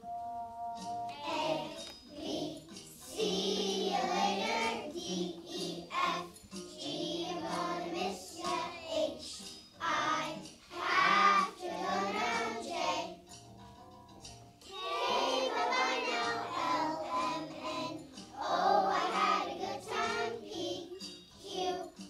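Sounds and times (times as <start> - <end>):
children singing: 1.1 - 13.2, 14.7 - 22.0.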